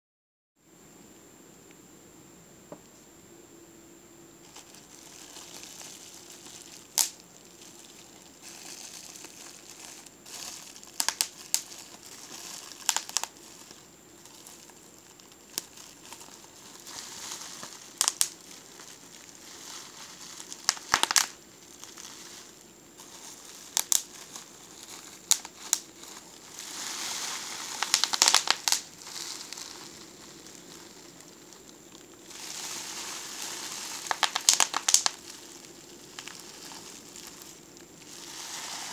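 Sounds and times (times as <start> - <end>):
bubble wrap pops: 4.4 - 38.9
plastic crinkling: 4.4 - 38.9.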